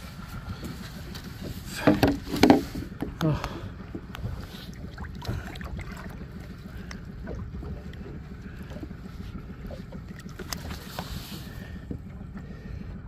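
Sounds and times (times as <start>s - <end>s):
water splashing and lapping: 0.0s - 13.0s.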